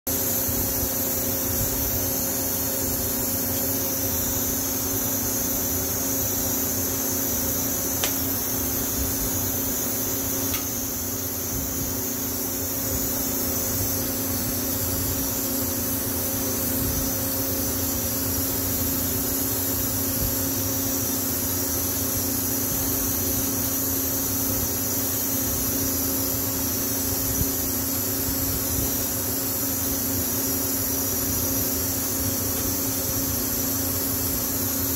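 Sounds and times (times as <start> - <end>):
weld cleaning unit humming: 0.1 - 34.9.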